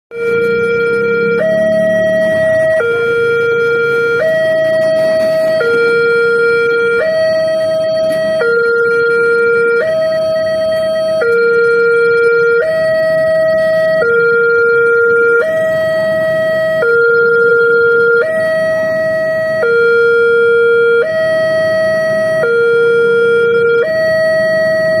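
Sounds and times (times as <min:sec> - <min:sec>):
two-tone crossing siren: 0:00.1 - 0:25.0.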